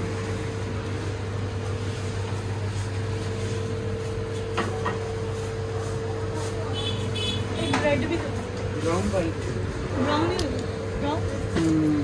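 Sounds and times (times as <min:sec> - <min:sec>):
fans and appliances humming: 0:00.0 - 0:12.0.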